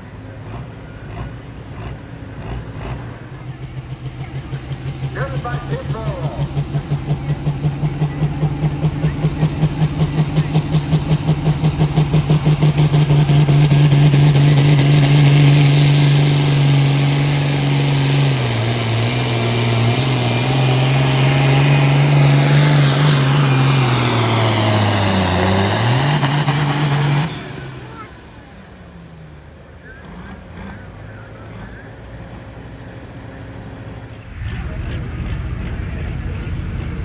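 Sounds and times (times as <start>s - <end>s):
pulling vehicle engine revving hard: 0.0s - 37.0s.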